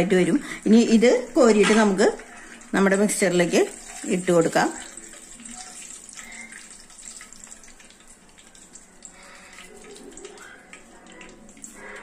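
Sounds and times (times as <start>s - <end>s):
leaves sizzling in hot oil: 0.0s - 12.0s.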